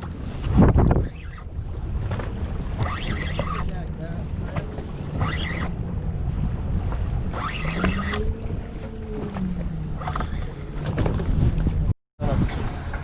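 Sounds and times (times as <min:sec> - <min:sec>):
wind buffeting microphone: 0:00.0 - 0:12.8
water rumbling around hull: 0:00.0 - 0:13.0
boat motor humming: 0:01.2 - 0:11.9.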